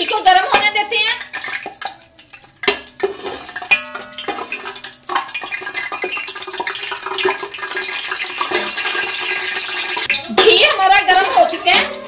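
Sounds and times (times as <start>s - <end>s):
ghee sizzling in pot: 0.0s - 12.0s
metal spatula scraping steel pot: 0.0s - 12.0s.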